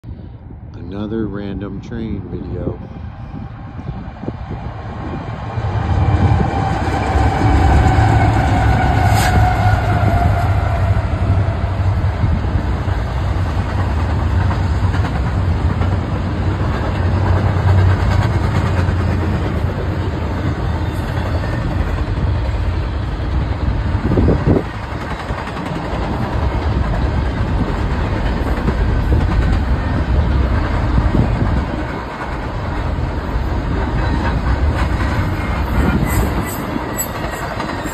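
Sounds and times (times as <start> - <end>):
diesel locomotive engine drone: 0.0 - 37.9
train wheels rumbling over rails: 0.8 - 37.9.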